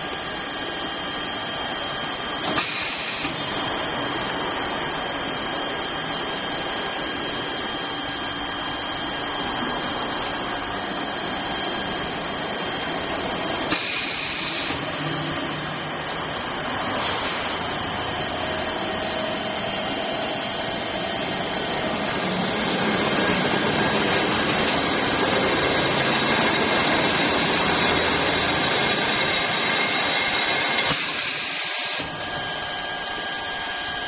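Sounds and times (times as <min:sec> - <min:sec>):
machine running with high whine: 0:00.0 - 0:34.0.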